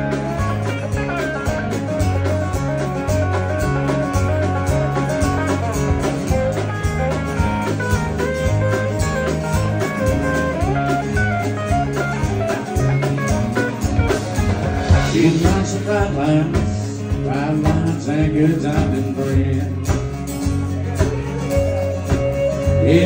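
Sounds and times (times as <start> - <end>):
live country band playing: 0.0 - 23.0.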